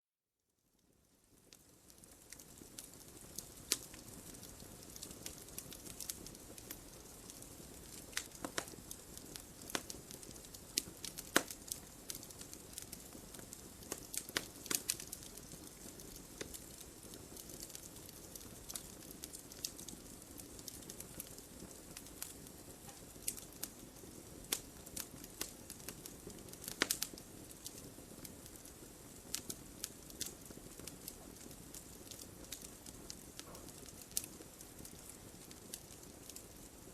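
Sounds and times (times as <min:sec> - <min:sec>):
wood fire crackling: 0:00.7 - 0:36.9.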